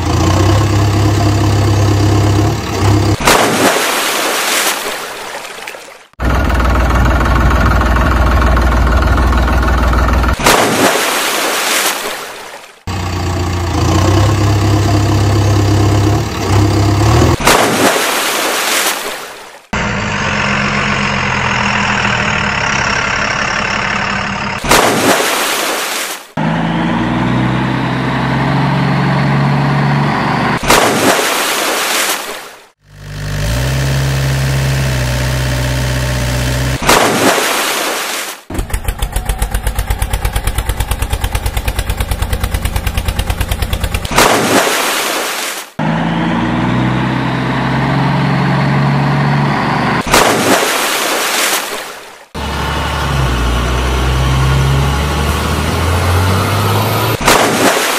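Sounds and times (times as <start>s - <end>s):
truck engine running and revving: 0.0s - 3.8s, 6.1s - 11.1s, 12.8s - 18.1s, 19.7s - 25.4s, 26.3s - 31.3s, 32.7s - 37.6s, 38.4s - 44.9s, 45.7s - 50.9s, 52.3s - 57.9s.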